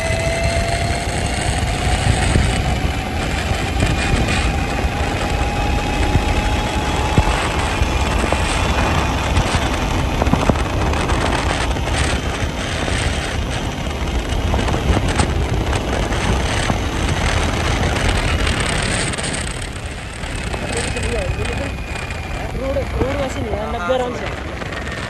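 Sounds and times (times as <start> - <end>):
road and tyre noise: 0.0 - 25.0
wind rushing over microphone: 0.0 - 25.0.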